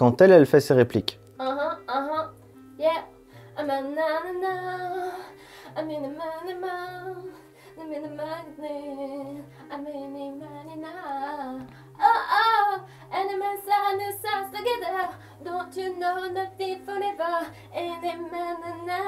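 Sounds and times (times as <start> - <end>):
woman singing wordless melody: 1.3 - 19.0.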